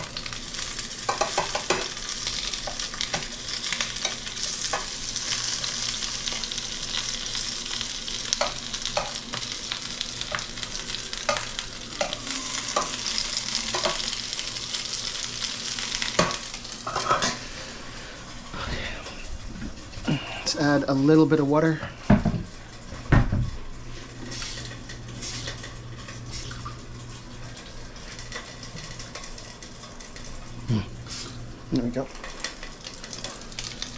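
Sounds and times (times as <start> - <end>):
dumplings sizzling in oil: 0.0 - 18.6, 22.5 - 33.9.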